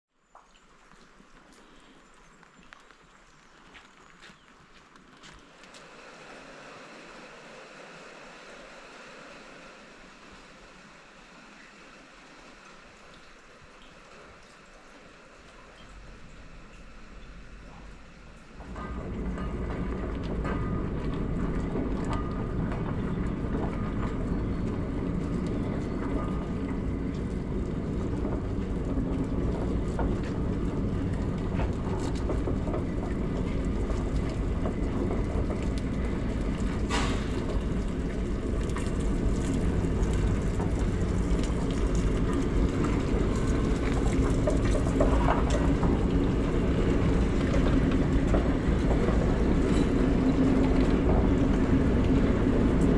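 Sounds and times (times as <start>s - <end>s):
steam locomotive wheels rumbling: 2.3s - 52.9s.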